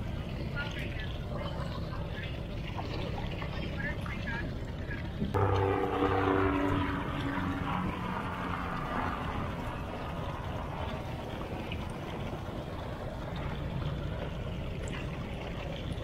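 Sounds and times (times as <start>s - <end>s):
water gushing and splashing: 0.0s - 16.0s.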